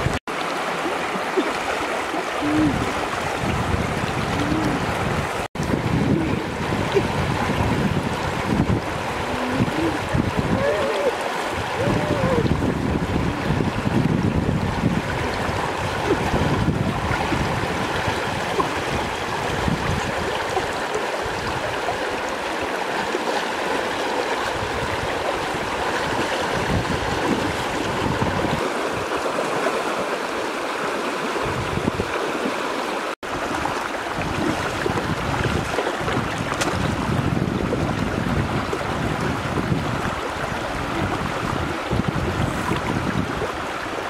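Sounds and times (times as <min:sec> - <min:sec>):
wind on microphone: 0:00.0 - 0:00.2, 0:02.3 - 0:22.6, 0:23.6 - 0:30.1, 0:31.4 - 0:32.3, 0:33.2 - 0:44.0
floodwater rushing: 0:00.0 - 0:44.0.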